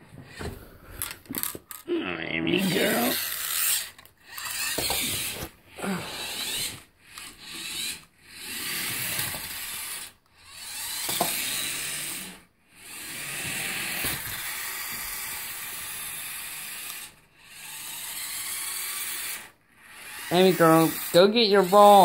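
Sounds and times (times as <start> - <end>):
toy car motor whirring: 0.3 - 22.0.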